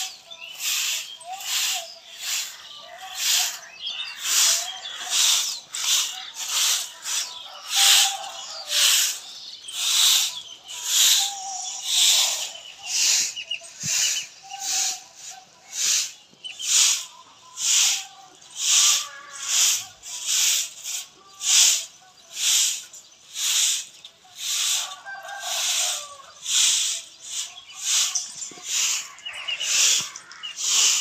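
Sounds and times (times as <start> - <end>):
broom sweeping cement floor: 0.0 - 31.0.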